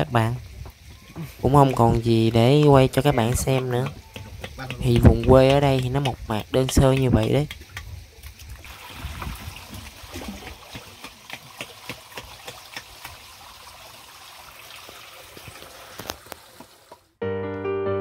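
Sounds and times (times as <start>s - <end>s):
water trickling and splashing: 0.0s - 17.2s.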